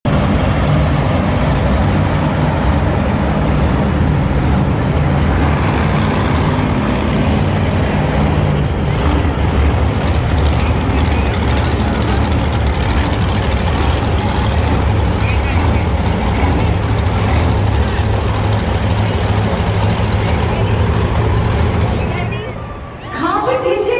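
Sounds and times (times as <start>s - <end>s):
monster truck engine running: 0.0s - 23.6s.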